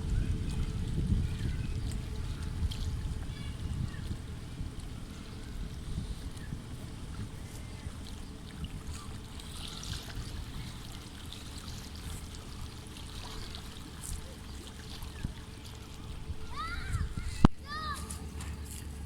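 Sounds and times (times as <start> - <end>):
small splashes: 0.0 - 18.9
steady low rumble: 0.0 - 19.0
water lapping around boat: 0.0 - 19.0.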